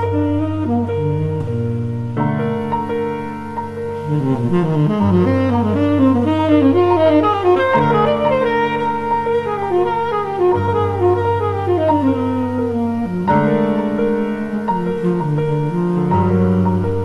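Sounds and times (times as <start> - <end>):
piano chords: 0.0 - 17.0
tenor saxophone melody: 0.0 - 17.0.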